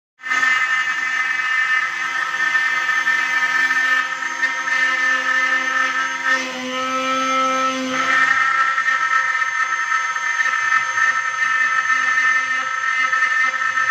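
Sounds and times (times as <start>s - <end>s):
router spindle whining: 0.2s - 13.9s.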